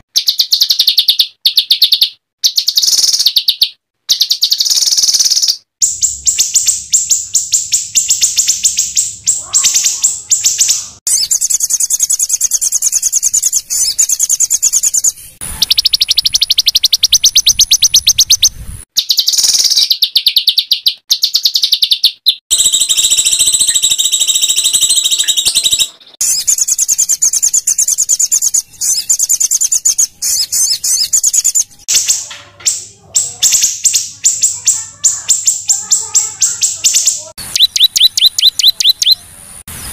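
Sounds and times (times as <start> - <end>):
songbird singing rapid trills: 0.2 - 32.1, 32.7 - 39.2.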